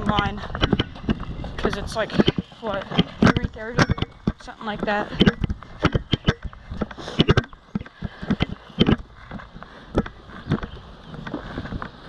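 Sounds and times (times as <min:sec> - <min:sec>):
gear handling clicks and knocks: 0:00.0 - 0:12.0
wind rumble on microphone: 0:00.0 - 0:12.0.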